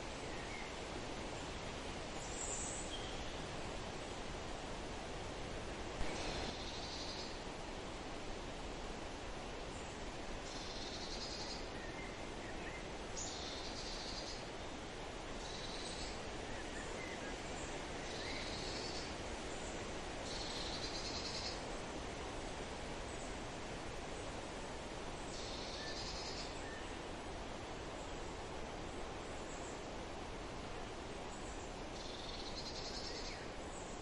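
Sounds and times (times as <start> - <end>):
forest wind: 0.0 - 34.0.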